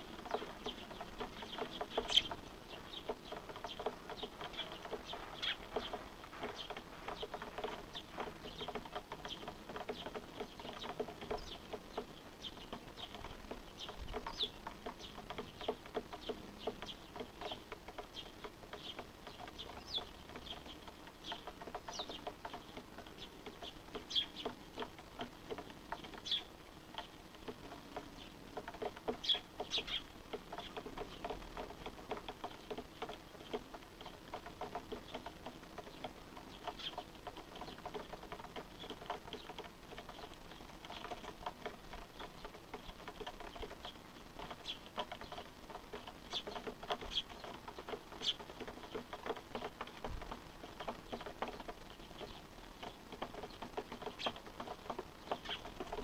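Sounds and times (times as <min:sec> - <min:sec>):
faint clicks and ticks: 0:00.0 - 0:56.0
small birds chirping: 0:00.0 - 0:56.0.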